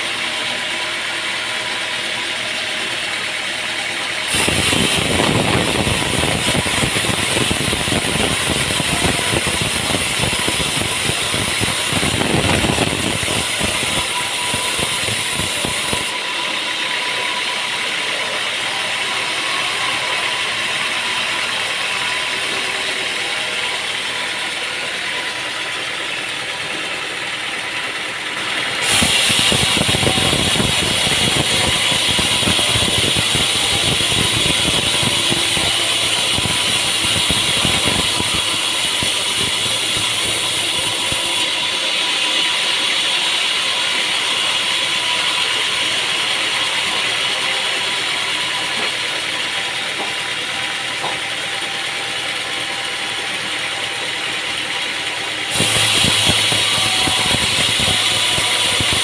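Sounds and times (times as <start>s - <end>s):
sawmill machinery rattling: 0.0s - 59.0s.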